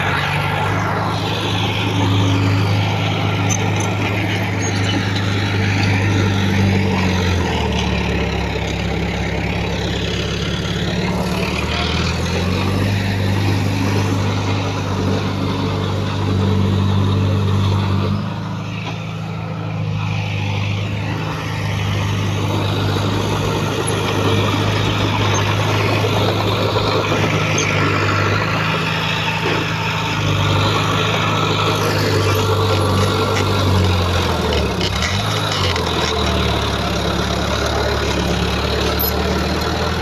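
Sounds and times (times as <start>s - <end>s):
heavy diesel engine humming: 0.0s - 40.0s.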